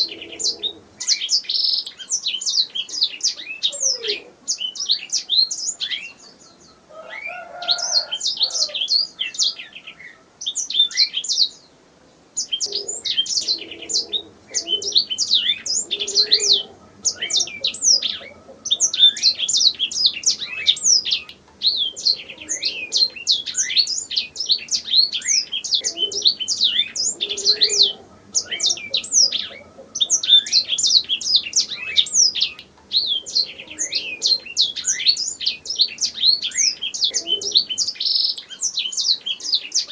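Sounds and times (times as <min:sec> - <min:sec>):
canary singing: 0:00.0 - 0:11.7, 0:12.4 - 0:39.9.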